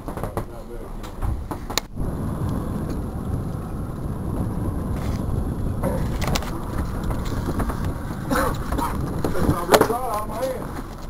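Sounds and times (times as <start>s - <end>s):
boat low rumble: 0.0s - 11.0s.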